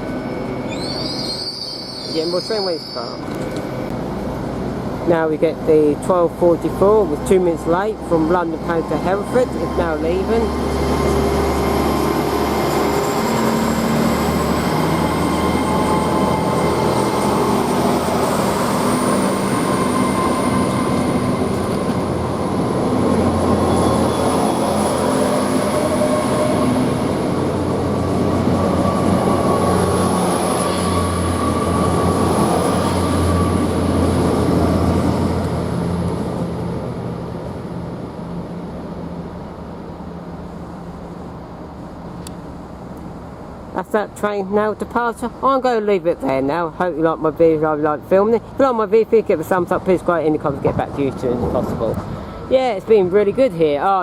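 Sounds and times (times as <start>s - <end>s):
diesel train engines running: 0.0s - 54.0s.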